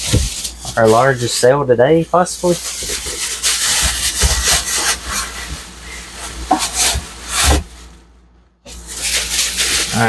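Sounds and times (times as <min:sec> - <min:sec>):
packing materials rustling: 0:00.0 - 0:01.4, 0:02.2 - 0:10.0.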